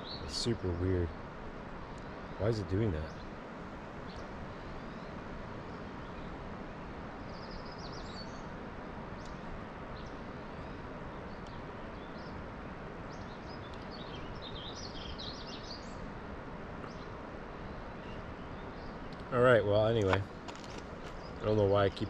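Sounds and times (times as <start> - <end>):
birds chirping: 0.0 - 22.0
outdoor hiss: 0.0 - 22.0.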